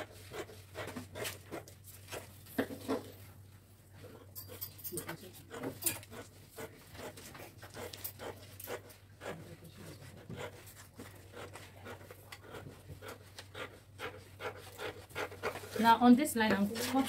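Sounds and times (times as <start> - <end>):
scissors cutting paper: 0.0 - 3.1, 4.4 - 15.9.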